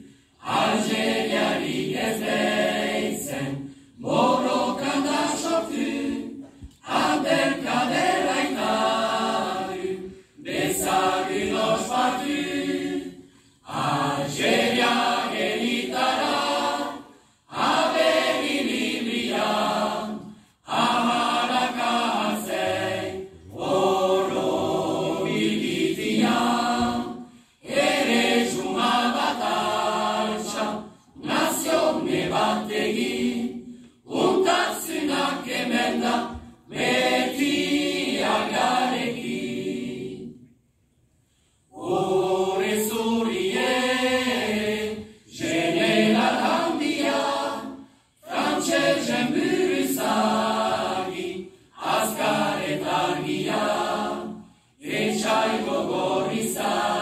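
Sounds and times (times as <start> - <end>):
choir singing unaccompanied: 0.0 - 40.6, 41.7 - 57.0.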